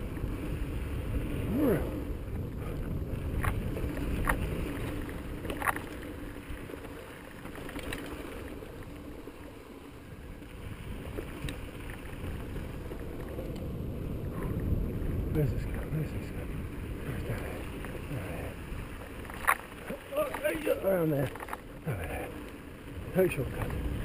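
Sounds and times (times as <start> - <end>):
wind on microphone: 0.0 - 6.8, 10.2 - 21.0, 21.8 - 24.0
bike tyres rumbling on rock: 0.0 - 24.0
bike clicks and rattles: 2.3 - 15.6, 17.0 - 21.8, 22.4 - 24.0.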